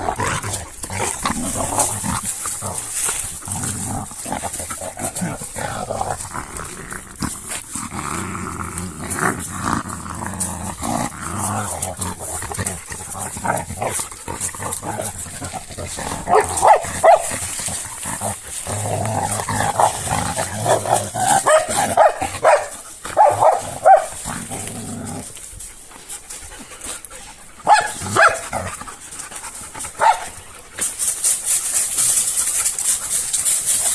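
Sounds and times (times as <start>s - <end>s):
dogs growling: 0.0s - 33.9s.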